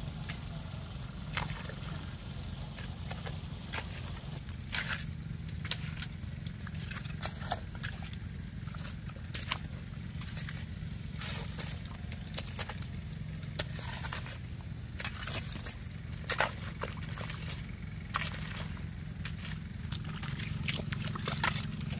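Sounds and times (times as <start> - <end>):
steady low rumble: 0.0 - 21.9
hoes scraping wet mud: 0.1 - 21.9
mud being patted: 0.1 - 21.9.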